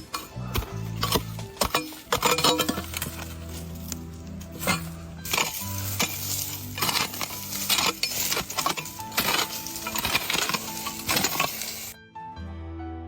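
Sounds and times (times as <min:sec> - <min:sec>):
background music with low notes: 0:00.0 - 0:13.0.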